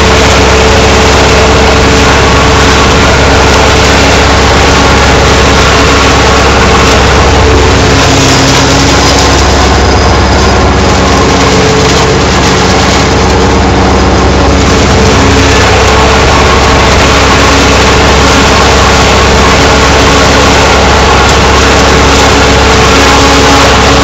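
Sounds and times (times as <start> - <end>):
forage harvester chopping maize: 0.0 - 24.0
tractor engine: 0.0 - 24.0.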